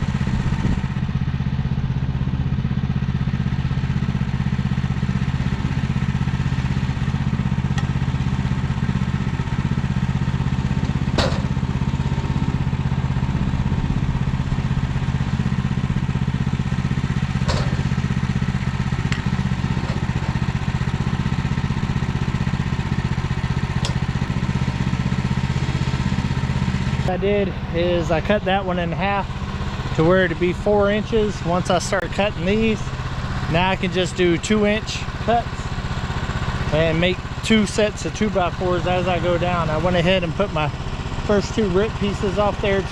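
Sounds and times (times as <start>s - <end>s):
small gas engine running: 0.0s - 42.9s.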